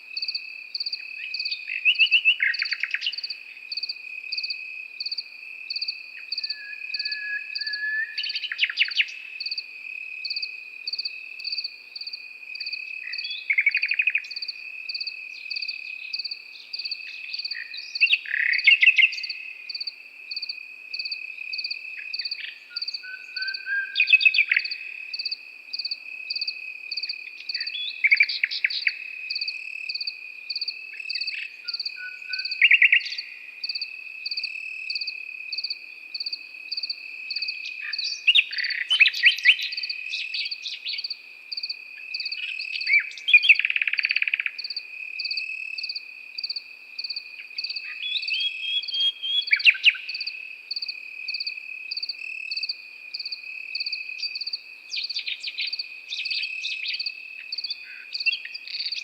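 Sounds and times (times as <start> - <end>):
nightingale singing: 0.0 - 59.0
cricket chirping in pulses: 0.1 - 59.0
cricket trilling: 0.1 - 59.0.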